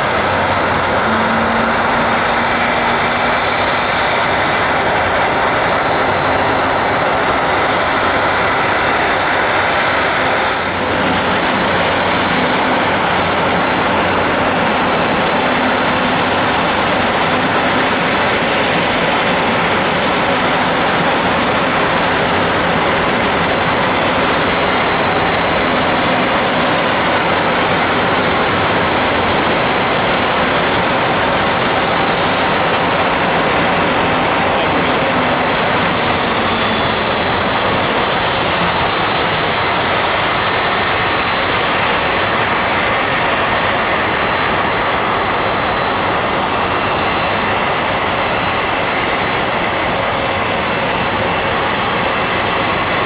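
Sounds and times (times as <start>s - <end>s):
high engine whine: 0.0s - 53.0s
jet engines rushing: 0.0s - 53.0s.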